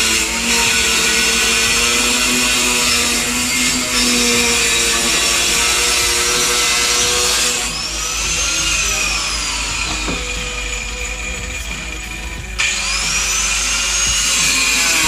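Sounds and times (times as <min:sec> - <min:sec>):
power tool hissing and winding down: 0:00.0 - 0:15.0.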